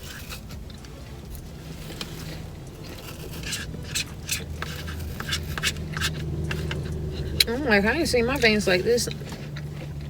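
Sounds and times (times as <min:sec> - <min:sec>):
eating and food handling scrapes: 0:00.0 - 0:10.0
steady low hum: 0:00.0 - 0:10.0.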